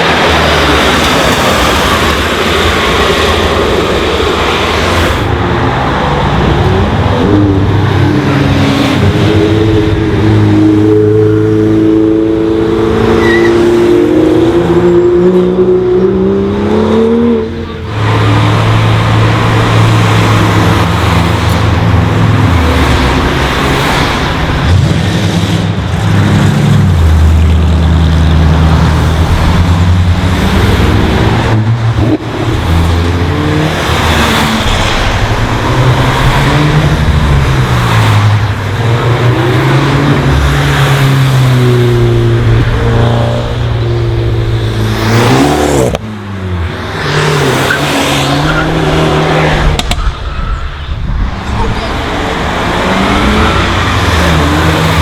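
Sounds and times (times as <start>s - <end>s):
cars revving and driving past: 0.0s - 55.0s.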